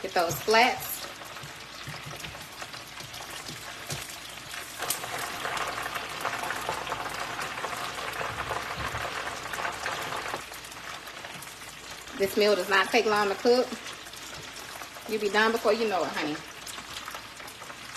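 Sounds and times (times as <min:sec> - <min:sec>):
oil crackling sizzle: 0:00.0 - 0:17.9.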